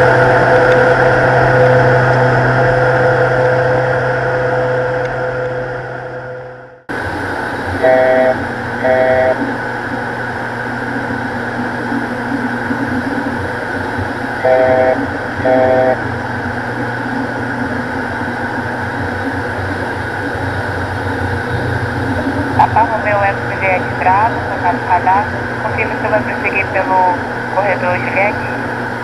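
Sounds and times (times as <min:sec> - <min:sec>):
turboprop engines droning: 0:00.0 - 0:29.0.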